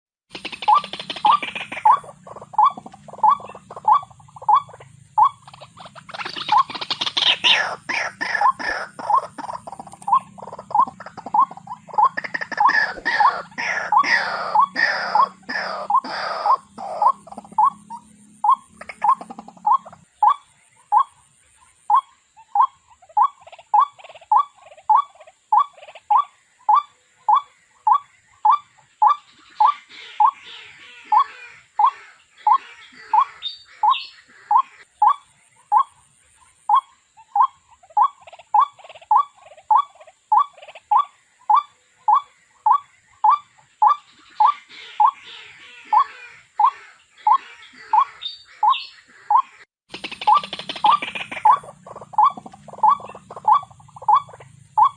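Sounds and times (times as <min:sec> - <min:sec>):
waterhen calling: 0:00.3 - 0:54.9.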